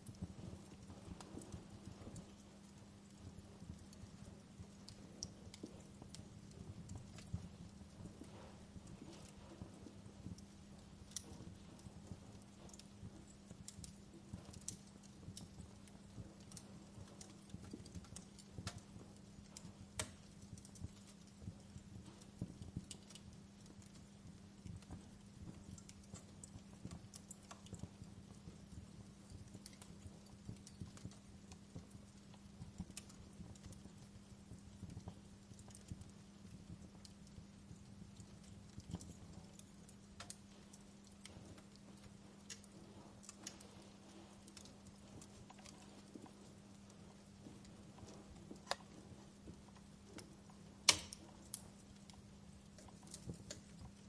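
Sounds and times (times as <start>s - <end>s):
faint steady hum: 0.0s - 54.0s
low rumble of flames: 0.0s - 54.0s
wood fire crackling: 0.0s - 54.0s.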